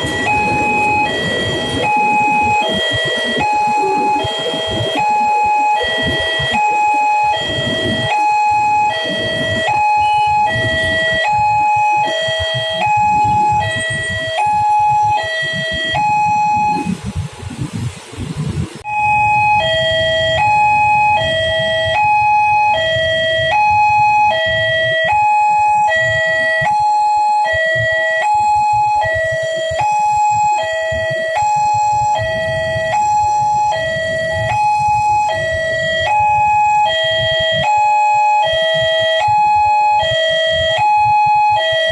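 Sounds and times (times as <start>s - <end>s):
level crossing alarm two-tone signal: 0.0s - 17.2s, 18.8s - 41.9s.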